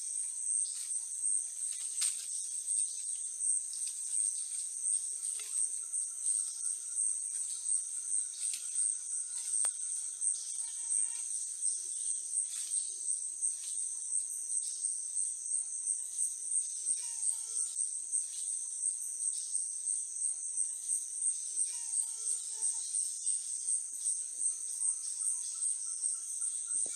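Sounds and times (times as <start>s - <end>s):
pulsing chorus of forest insects: 0.0s - 26.9s.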